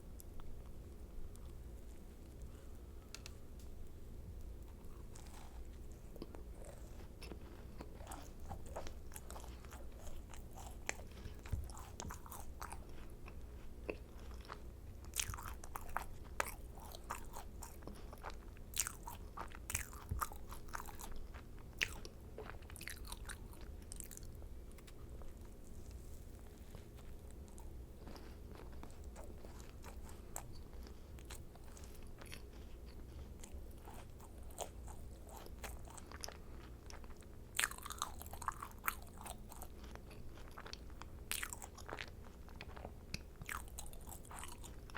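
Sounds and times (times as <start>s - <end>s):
close chewing of crisp shells: 4.4s - 44.9s.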